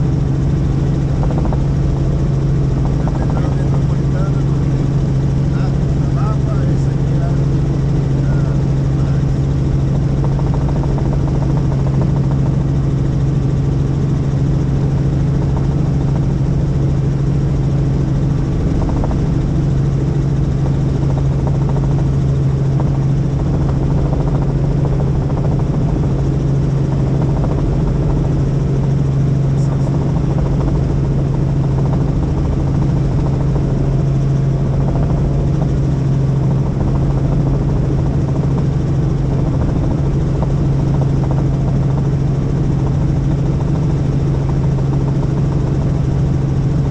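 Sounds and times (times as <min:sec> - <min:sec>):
helicopter rotor drone: 0:00.0 - 0:46.9.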